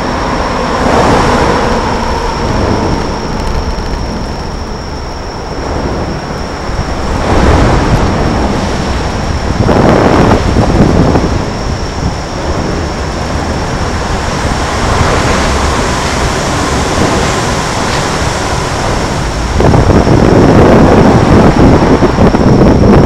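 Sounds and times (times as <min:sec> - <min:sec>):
faint high whine: 0:00.0 - 0:23.0
traffic noise: 0:00.0 - 0:23.0
wind rushing on microphone: 0:00.0 - 0:23.0.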